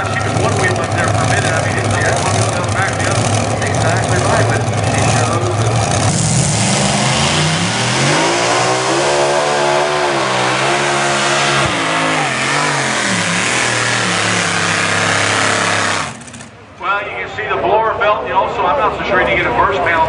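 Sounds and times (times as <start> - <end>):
tractor engine running hard: 0.0 - 16.7.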